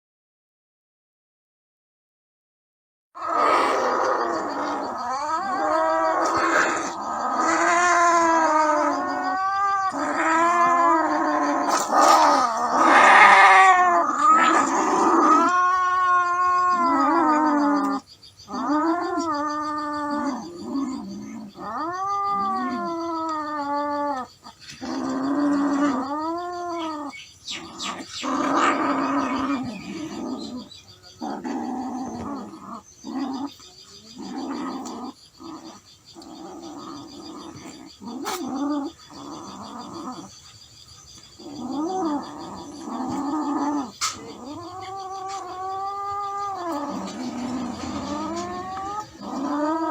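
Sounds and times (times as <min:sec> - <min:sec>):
cats yowling: 0:03.2 - 0:40.4, 0:41.2 - 0:49.9.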